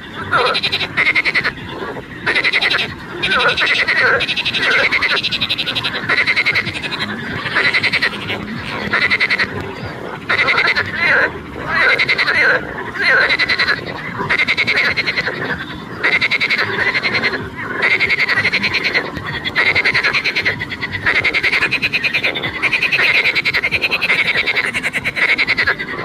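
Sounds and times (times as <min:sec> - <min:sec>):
frog croaking with buzzy trills: 0:00.0 - 0:26.0.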